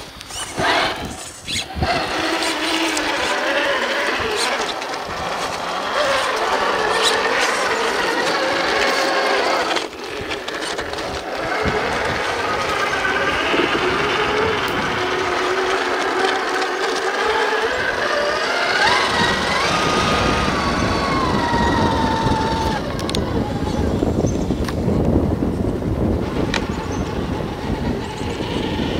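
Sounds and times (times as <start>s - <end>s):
electric motor whining: 0.0s - 28.9s.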